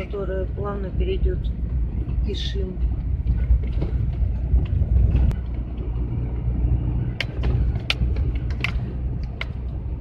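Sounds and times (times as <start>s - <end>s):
van engine and tyre rumble: 0.0s - 10.0s.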